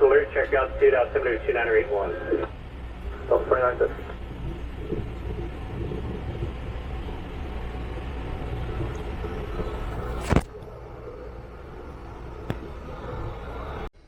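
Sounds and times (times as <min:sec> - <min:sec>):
steady low rumble with hiss: 0:00.0 - 0:14.0.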